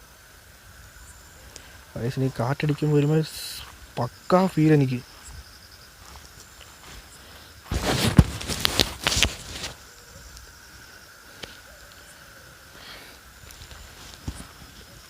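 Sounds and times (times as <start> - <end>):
crickets chirring: 0.0 - 15.0
footsteps crunching through dry leaves: 1.4 - 12.1, 12.8 - 15.0.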